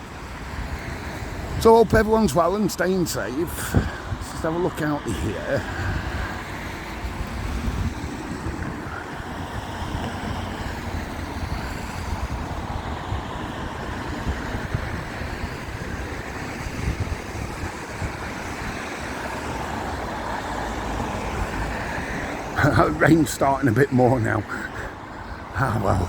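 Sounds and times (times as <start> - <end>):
traffic passing on wet road: 0.0 - 26.0.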